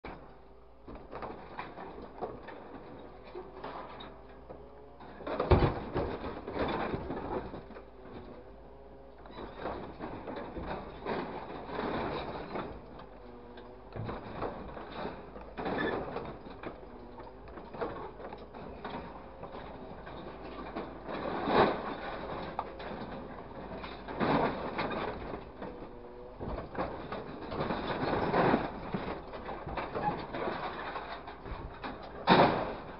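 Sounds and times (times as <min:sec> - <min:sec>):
scrap clanking and crashing: 0:05.0 - 0:08.5, 0:09.3 - 0:32.9.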